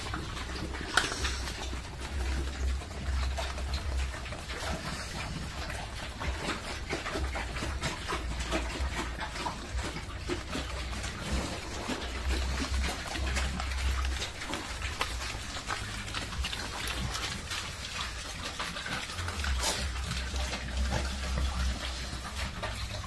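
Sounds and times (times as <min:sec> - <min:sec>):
pigs chewing and snuffling: 0:00.0 - 0:23.0.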